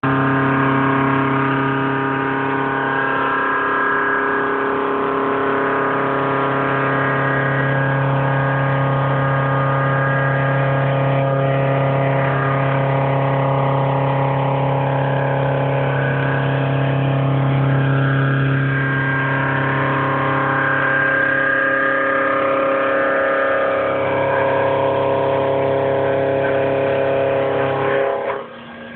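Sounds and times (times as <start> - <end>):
high whining tones: 0.0 - 28.9
machine tool motor humming: 0.0 - 28.9.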